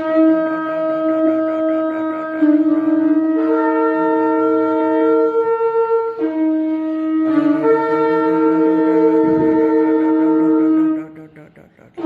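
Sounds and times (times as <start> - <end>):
ram's horn blasts: 0.0 - 12.0.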